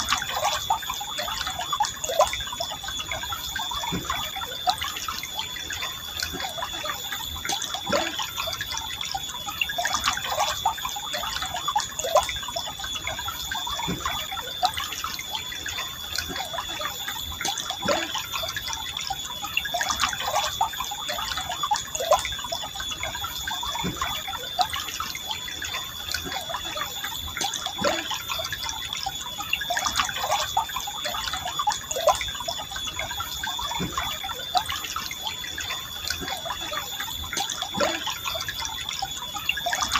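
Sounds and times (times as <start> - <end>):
stream flowing: 0.0 - 39.9
thin high steady tone: 0.0 - 39.9
water drips and gurgles: 0.0 - 39.9.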